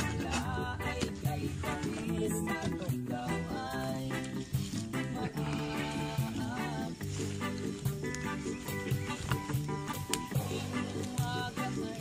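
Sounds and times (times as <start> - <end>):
instrumental music with beat: 0.0 - 12.0.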